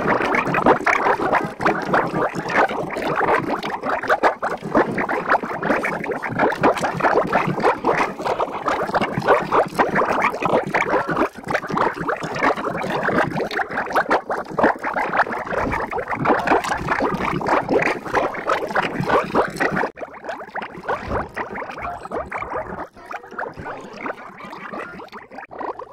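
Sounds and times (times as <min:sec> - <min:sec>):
cartoon water splashing and gurgling: 0:00.0 - 0:25.9.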